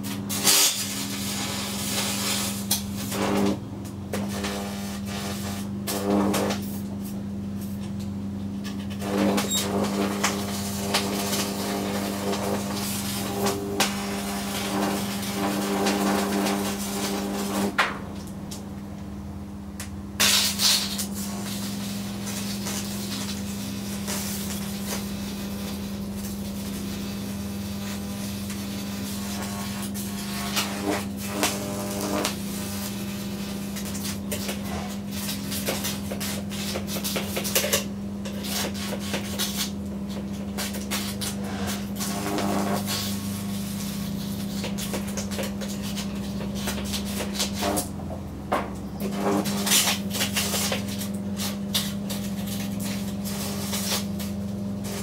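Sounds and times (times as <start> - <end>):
electric arc crackling: 0.0 - 7.8, 8.8 - 18.7, 20.2 - 47.9, 49.0 - 55.0.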